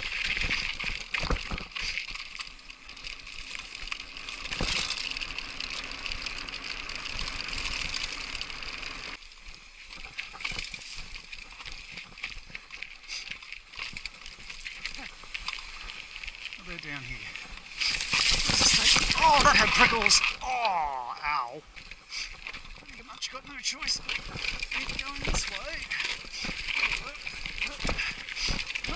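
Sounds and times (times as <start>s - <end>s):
bike knocks and rattles: 0.0s - 15.6s, 16.9s - 20.3s, 21.8s - 28.9s
bike tyres on rough rock: 0.0s - 28.9s.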